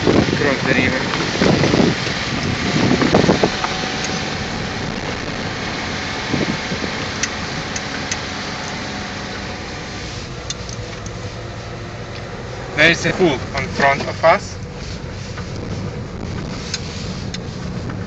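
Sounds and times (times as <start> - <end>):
car engine: 0.0 - 18.0.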